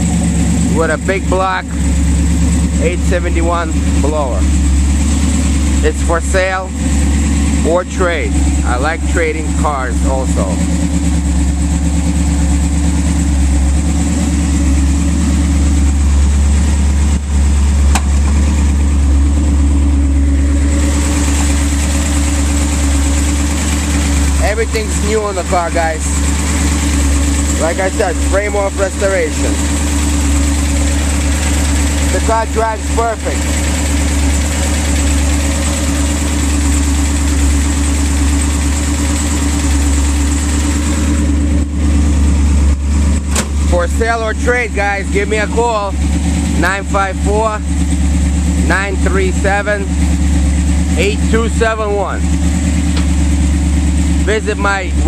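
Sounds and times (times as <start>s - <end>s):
supercharged engine idling: 0.0s - 55.0s.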